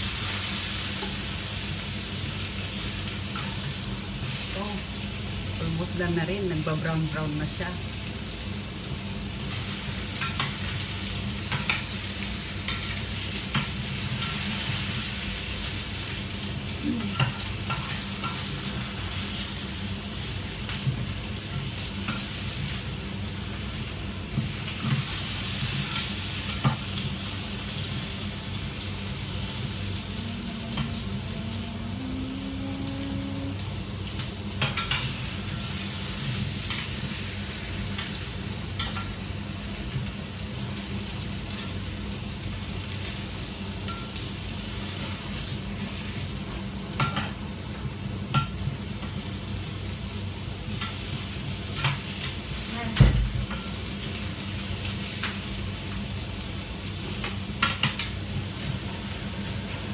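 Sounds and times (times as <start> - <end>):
chicken wings sizzling in a pan: 0.0 - 59.9.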